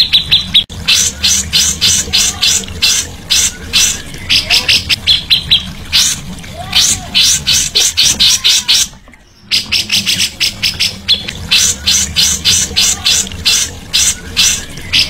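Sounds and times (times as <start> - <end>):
songbird chattering calls: 0.0 - 15.0.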